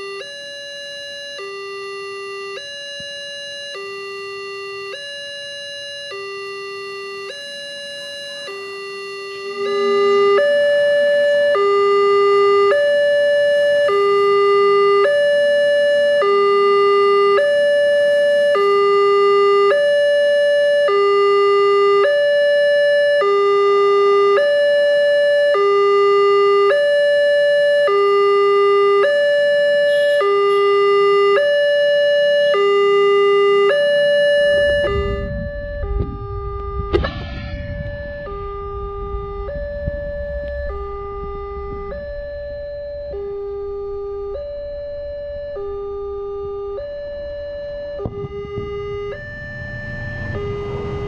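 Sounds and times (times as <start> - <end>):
level crossing two-tone alarm: 0.0 - 51.0.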